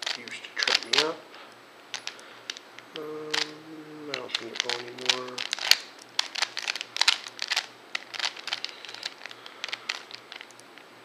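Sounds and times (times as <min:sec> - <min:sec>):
puzzle cube clicking: 0:00.0 - 0:01.2, 0:01.9 - 0:10.8.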